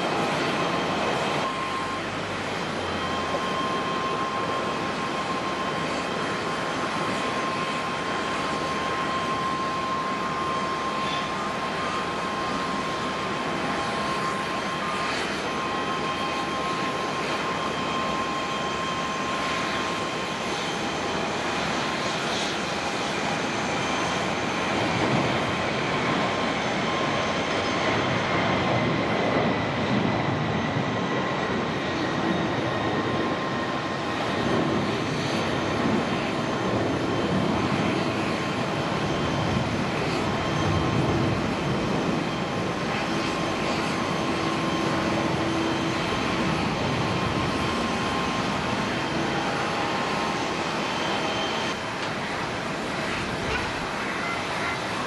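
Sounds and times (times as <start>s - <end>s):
faint jet whine: 0.0s - 55.0s
jet engine roar: 0.0s - 55.0s.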